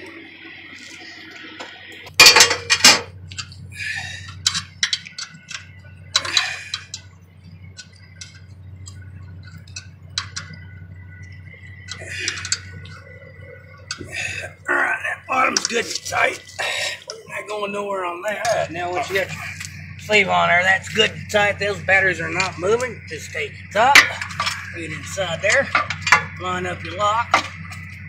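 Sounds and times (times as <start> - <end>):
steady low hum: 0.0 - 28.0
metal tools clanking: 2.0 - 28.0.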